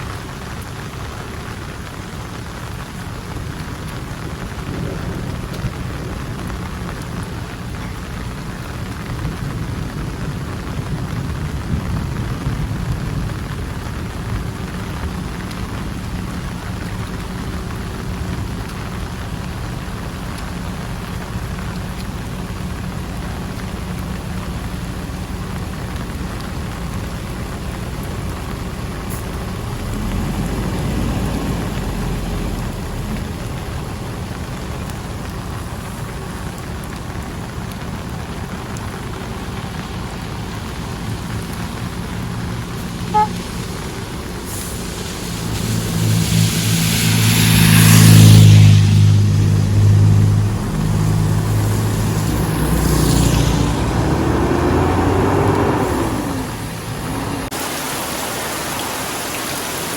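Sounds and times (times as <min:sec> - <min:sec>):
heavy rain: 0:00.0 - 0:59.9
vehicle passing on wet road: 0:00.0 - 0:59.9.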